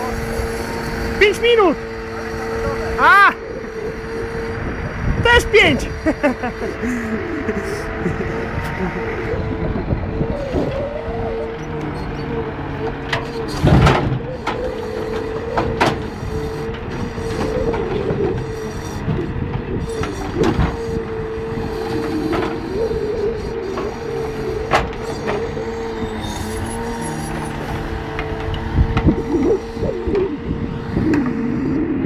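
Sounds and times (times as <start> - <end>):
hydraulic whine: 0.0 - 32.0
truck engine running: 0.0 - 32.0.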